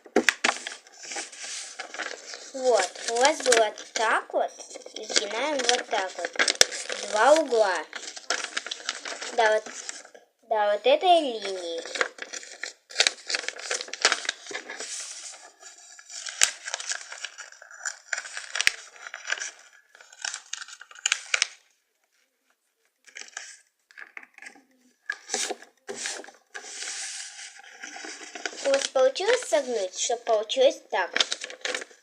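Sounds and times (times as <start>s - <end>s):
paper rustling and crinkling: 0.0s - 10.2s, 11.2s - 32.0s.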